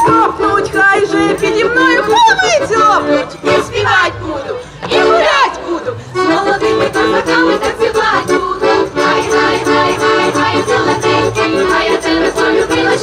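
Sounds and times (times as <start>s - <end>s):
accordion: 0.0s - 13.0s
women singing together: 0.0s - 13.0s.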